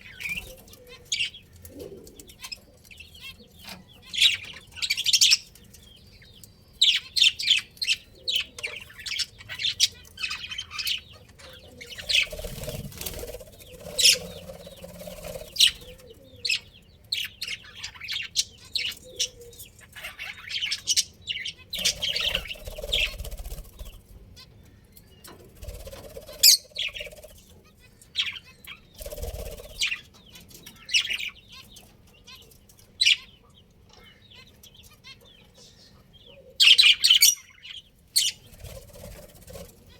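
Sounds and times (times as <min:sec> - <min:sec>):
budgerigars chirping: 0:02.1 - 0:24.6, 0:25.2 - 0:38.8.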